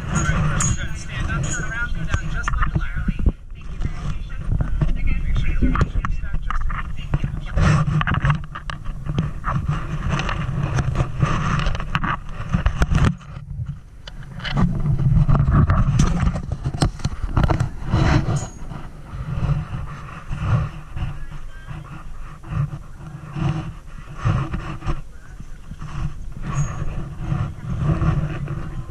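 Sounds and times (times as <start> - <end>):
heavy low rumble: 0.0 - 12.6, 13.5 - 28.9
microphone handling rubbing and knocks: 0.0 - 28.9.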